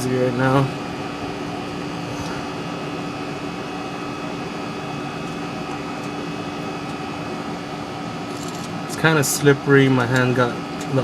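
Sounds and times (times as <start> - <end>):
constant hum: 0.0 - 11.0.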